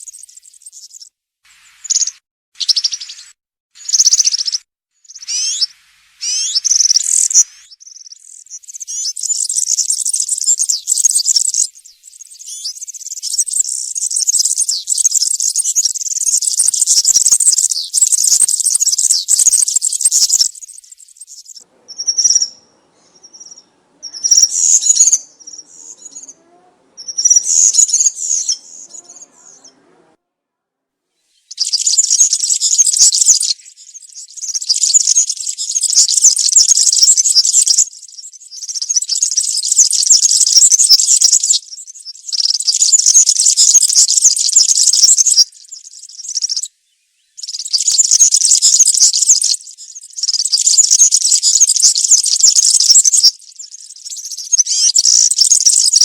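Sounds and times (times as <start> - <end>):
bird singing: 0.0 - 29.9, 31.4 - 56.0.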